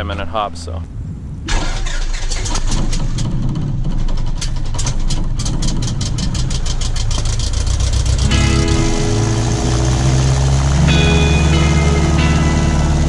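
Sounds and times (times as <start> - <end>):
aircraft propeller engine running: 1.5 - 13.0.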